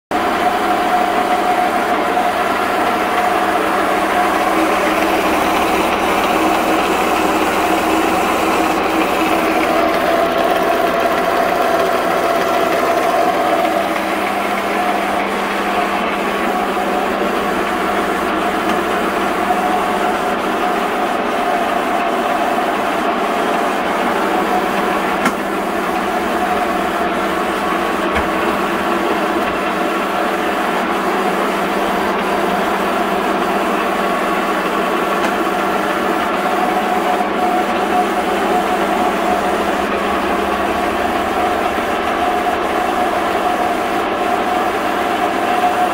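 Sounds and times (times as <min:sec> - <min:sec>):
lathe mechanical whine: 0:00.1 - 0:45.9.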